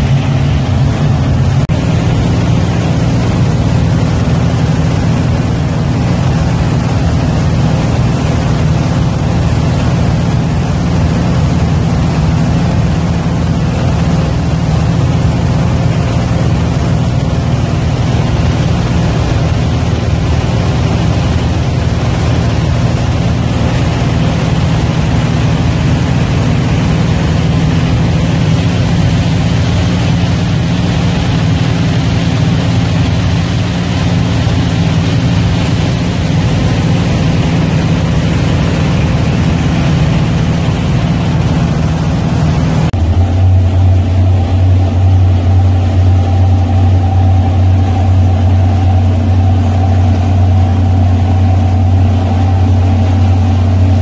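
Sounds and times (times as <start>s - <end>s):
boat engines running: 0.0s - 54.0s
rush of wake and wind: 0.0s - 54.0s.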